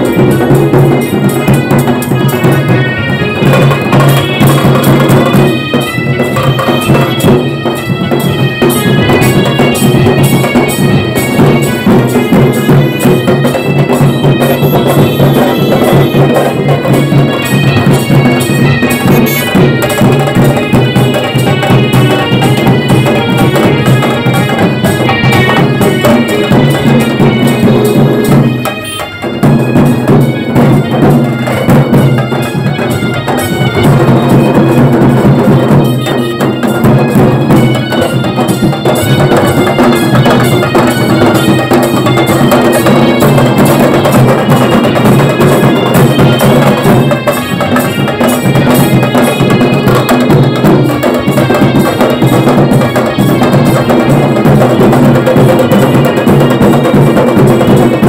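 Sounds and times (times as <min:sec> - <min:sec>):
band playing loud melodic music: 0:00.0 - 0:58.0
steady drums: 0:00.0 - 0:58.0.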